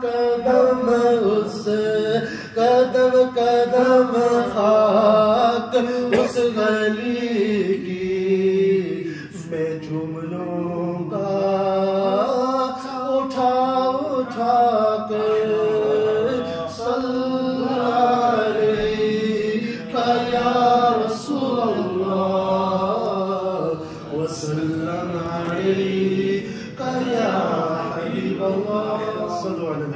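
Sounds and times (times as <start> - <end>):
man chanting into a microphone: 0.0 - 29.9.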